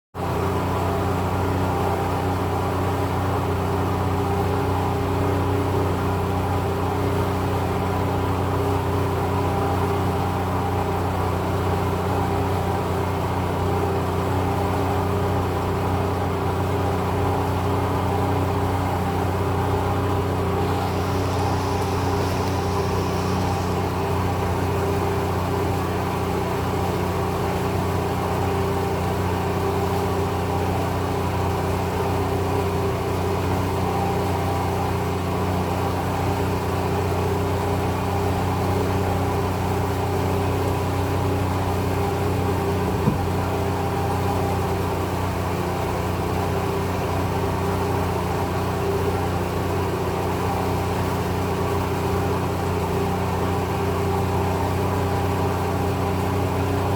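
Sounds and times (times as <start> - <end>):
engine running steadily: 0.2 - 56.9.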